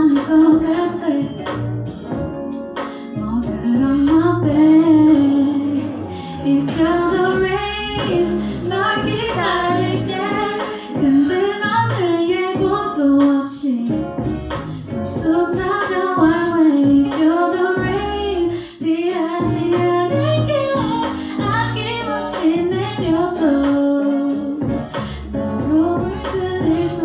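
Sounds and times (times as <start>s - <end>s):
woman singing: 0.0s - 1.6s, 2.9s - 14.0s, 15.0s - 27.0s
instrumental accompaniment: 0.0s - 27.0s.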